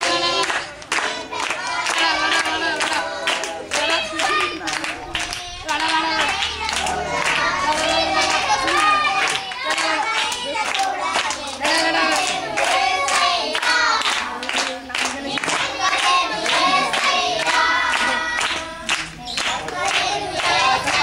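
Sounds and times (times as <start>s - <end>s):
children singing: 0.0s - 21.0s
hands clapping in time: 0.0s - 21.0s.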